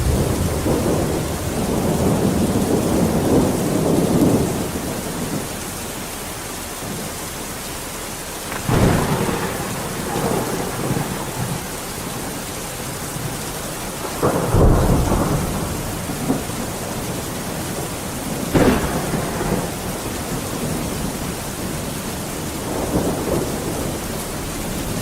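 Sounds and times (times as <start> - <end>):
rolling thunder: 0.0 - 5.6, 8.4 - 25.0
steady rain: 0.0 - 25.0.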